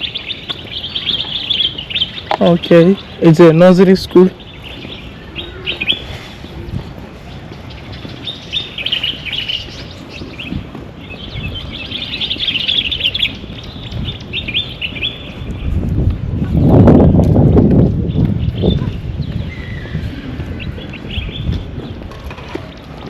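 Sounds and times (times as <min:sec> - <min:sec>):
small birds chirping: 0:00.0 - 0:16.2, 0:17.0 - 0:23.0.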